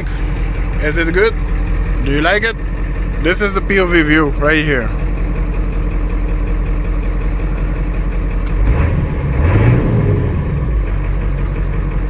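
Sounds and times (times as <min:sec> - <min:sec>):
pickup engine idling and revving: 0:00.0 - 0:12.0.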